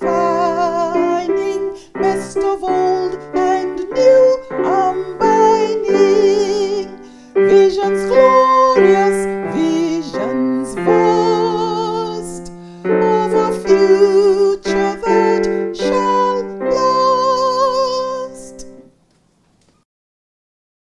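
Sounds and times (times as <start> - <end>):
woman singing with vibrato: 0.0 - 18.8
instrumental accompaniment: 0.0 - 19.0.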